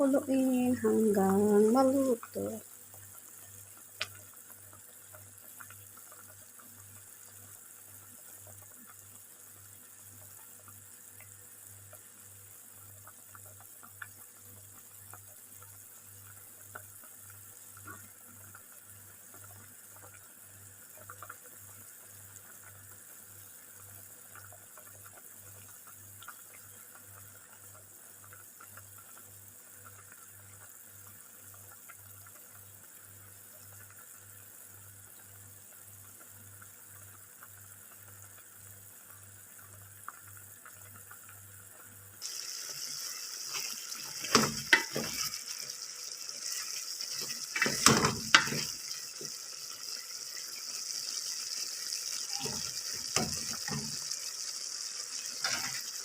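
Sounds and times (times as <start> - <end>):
bubbling liquid hiss: 0.0 - 56.0.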